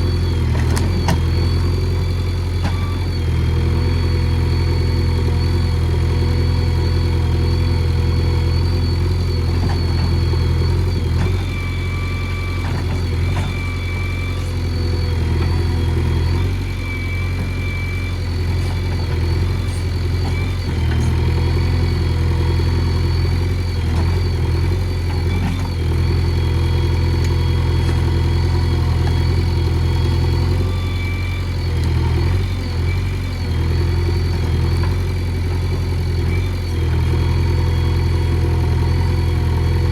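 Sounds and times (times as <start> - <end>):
backhoe diesel engine droning: 0.0 - 39.9.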